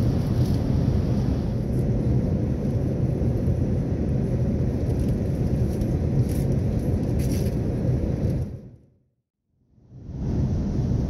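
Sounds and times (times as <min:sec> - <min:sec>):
airliner cabin rumble: 0:00.0 - 0:08.8, 0:09.9 - 0:11.0.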